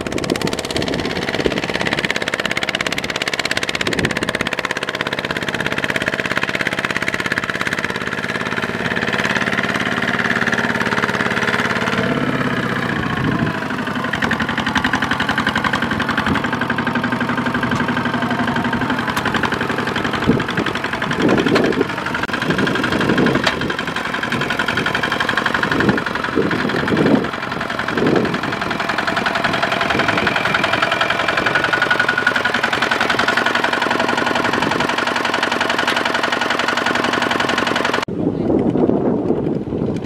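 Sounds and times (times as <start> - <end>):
diesel tiller engine knocking: 0.0 - 40.0.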